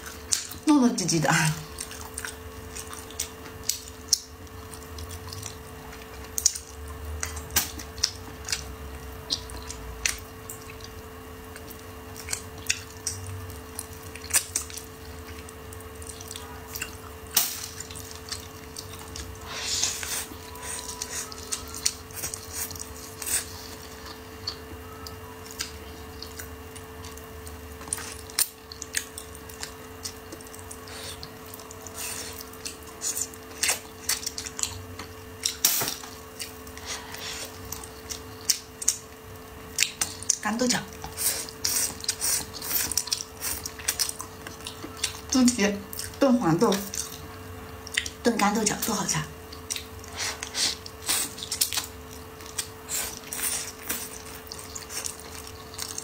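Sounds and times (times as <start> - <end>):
faint steady hum: 0.0 - 56.0
wet chewing and lip smacks: 1.6 - 48.2, 49.5 - 56.0.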